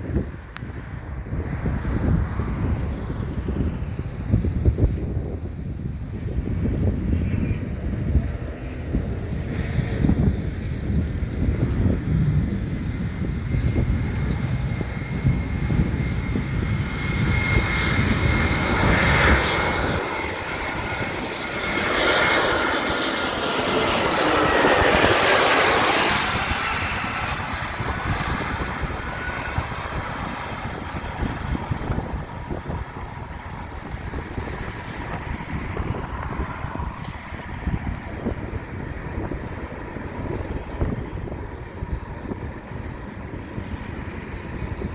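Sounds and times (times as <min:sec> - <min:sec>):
jet airliner passing: 0:00.0 - 0:44.9
wind buffeting microphone: 0:00.0 - 0:44.9.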